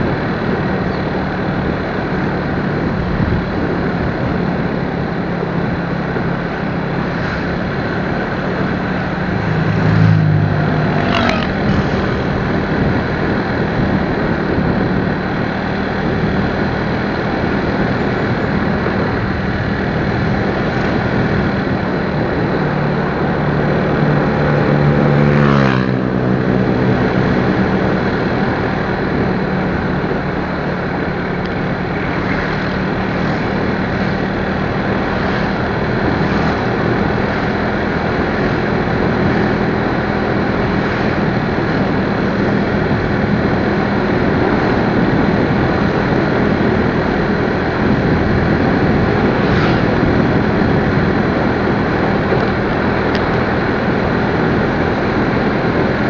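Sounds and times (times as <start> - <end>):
motorcycle engine humming: 0.0 - 56.0
rushing wind noise: 0.0 - 56.0.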